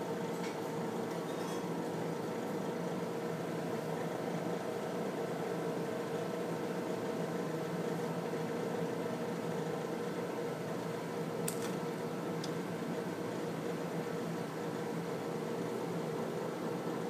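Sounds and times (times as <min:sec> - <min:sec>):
ventilation hum: 0:00.0 - 0:17.0.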